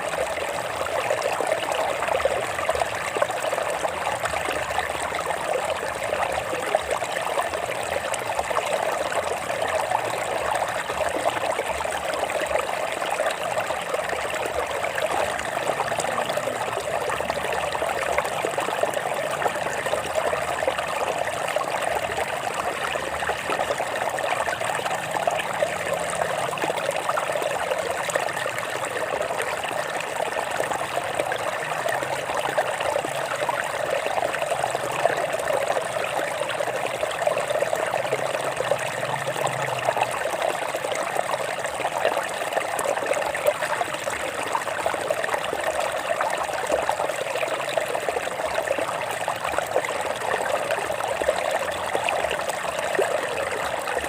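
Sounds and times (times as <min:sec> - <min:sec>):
stream babbling over rocks: 0:00.0 - 0:54.0.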